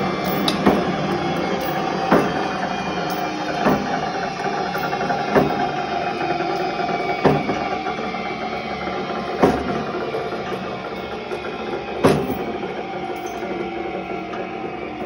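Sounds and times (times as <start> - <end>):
machine knocking: 0.0 - 15.0
motor and gear hum: 0.0 - 15.0.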